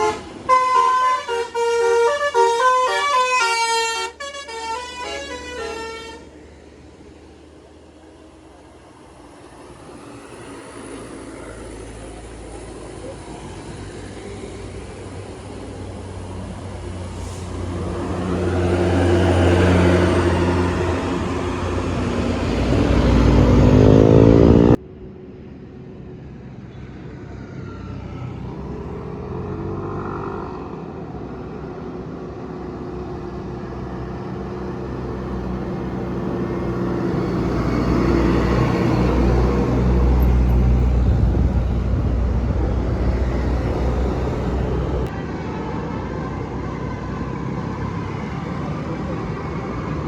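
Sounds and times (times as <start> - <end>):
bus engine passing: 0.0 - 50.0
quieter traffic: 0.0 - 50.0
vehicle going by: 4.4 - 25.0, 26.8 - 50.0.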